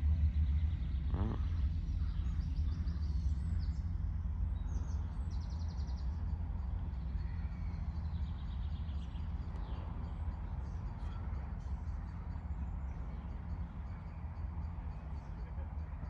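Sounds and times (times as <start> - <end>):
small birds twittering: 0.0 - 16.0
steady low rumble: 0.0 - 16.0.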